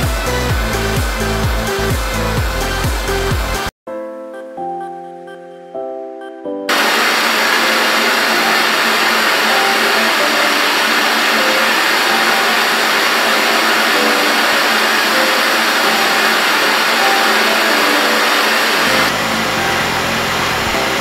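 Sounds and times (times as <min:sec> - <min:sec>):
blowtorches hissing: 0:00.0 - 0:03.7, 0:06.7 - 0:21.0.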